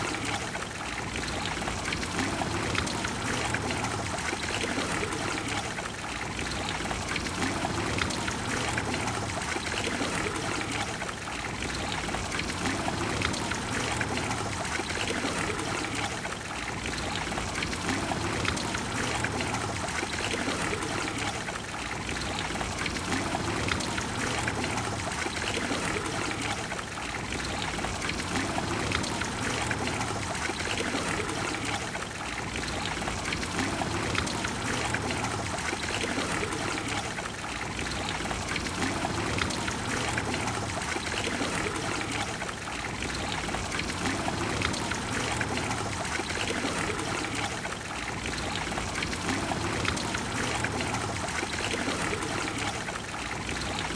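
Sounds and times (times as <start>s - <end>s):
fountain water splashing into basin: 0.0s - 53.9s.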